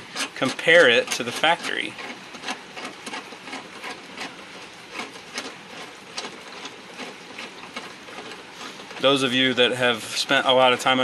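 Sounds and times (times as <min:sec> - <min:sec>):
nut spinning on threaded stud: 0:00.0 - 0:09.7.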